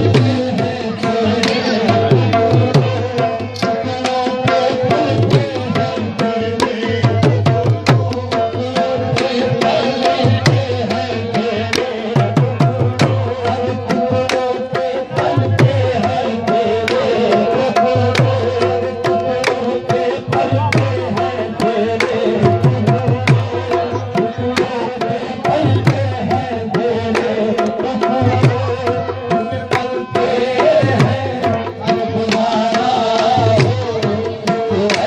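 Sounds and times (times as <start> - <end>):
tabla playing rhythm: 0.0 - 35.0.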